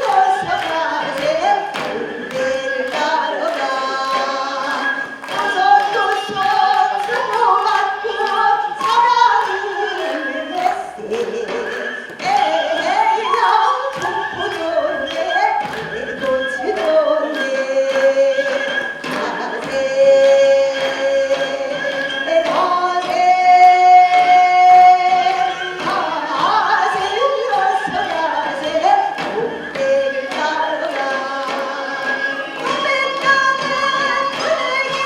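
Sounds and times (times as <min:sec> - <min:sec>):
woman singing: 0:00.0 - 0:35.0.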